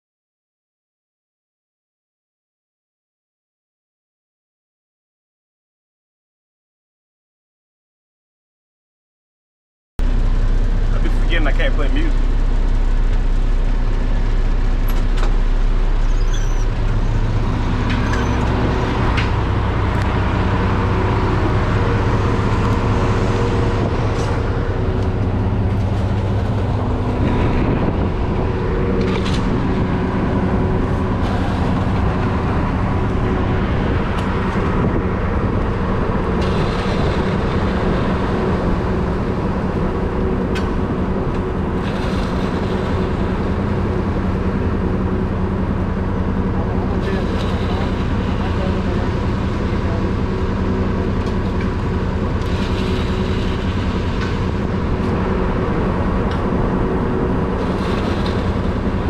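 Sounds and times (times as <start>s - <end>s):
diesel truck engine running: 10.0s - 59.0s.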